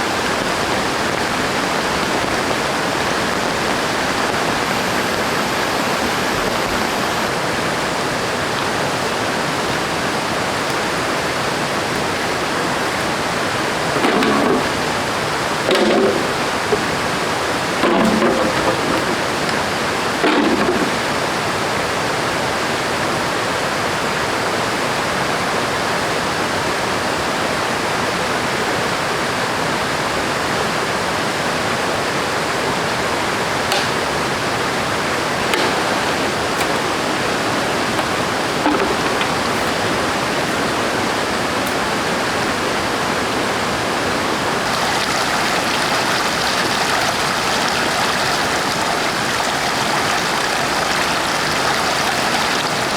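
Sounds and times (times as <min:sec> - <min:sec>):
river water rushing: 0:00.0 - 0:20.3, 0:20.9 - 0:52.9.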